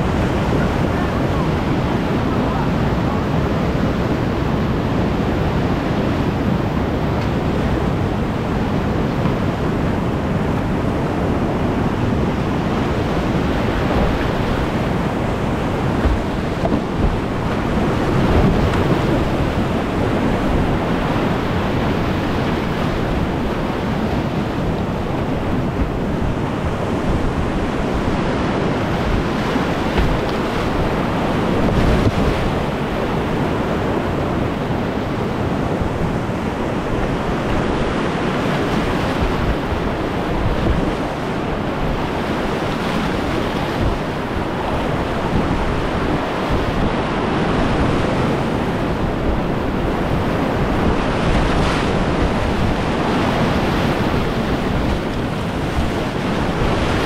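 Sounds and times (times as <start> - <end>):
whitewater rapids rushing: 0.0 - 57.0
wind rumbling on microphone: 0.0 - 57.0.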